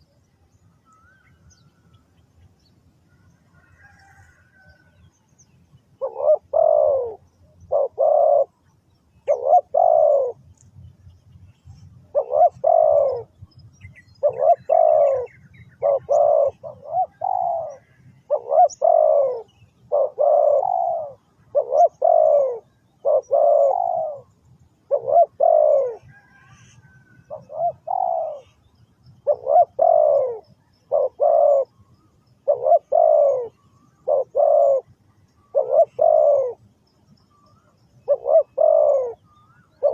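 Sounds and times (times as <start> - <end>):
dove cooing: 3.5 - 4.8, 6.0 - 8.6, 9.2 - 10.6, 11.7 - 36.6, 37.4 - 39.9.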